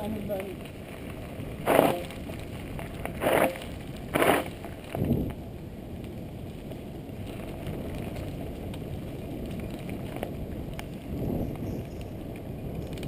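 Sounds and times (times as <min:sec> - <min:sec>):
bike clicks and rattles: 0:00.0 - 0:05.4, 0:06.0 - 0:13.0
tyres rolling over rough road: 0:00.0 - 0:13.0
wind buffeting microphone: 0:00.0 - 0:13.0.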